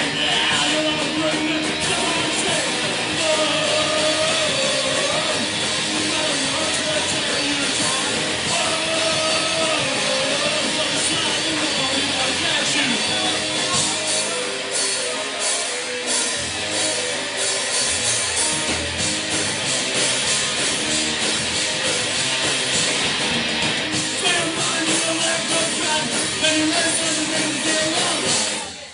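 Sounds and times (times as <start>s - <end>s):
punk rock band playing live: 0.0s - 28.9s.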